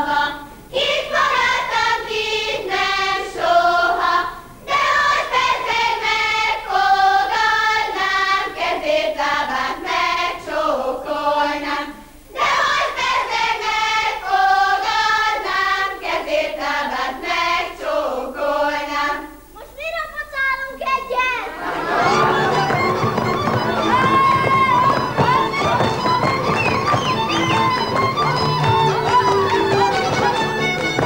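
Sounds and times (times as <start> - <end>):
children's choir singing: 0.0 - 19.5, 21.5 - 31.0.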